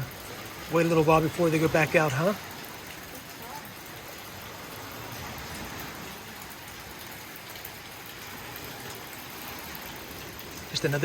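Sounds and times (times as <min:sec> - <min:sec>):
light rain hissing: 0:00.0 - 0:11.0.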